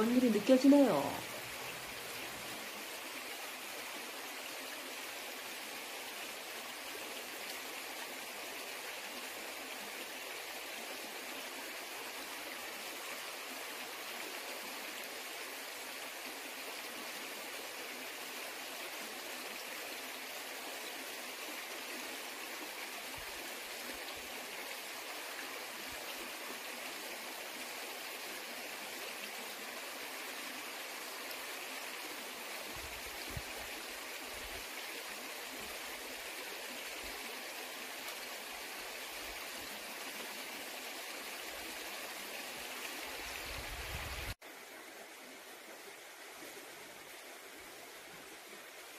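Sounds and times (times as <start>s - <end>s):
mountain stream water flowing: 0.0s - 48.9s.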